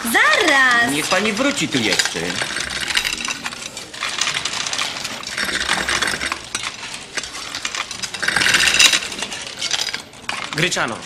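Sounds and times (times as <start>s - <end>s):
dishes and cutlery clattering: 0.0s - 11.0s.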